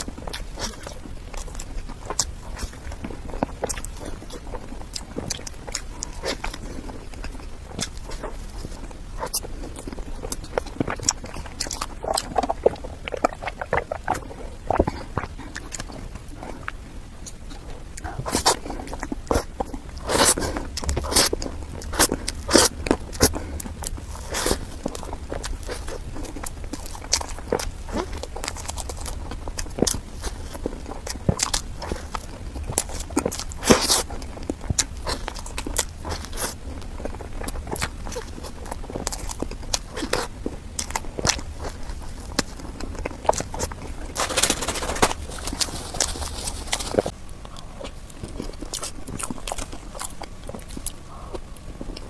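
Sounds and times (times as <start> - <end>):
person chewing cake: 0.0 - 52.0.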